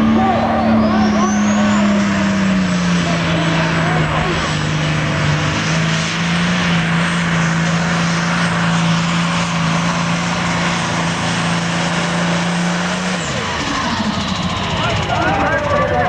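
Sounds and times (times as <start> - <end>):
diesel engine droning under load: 0.0 - 16.0.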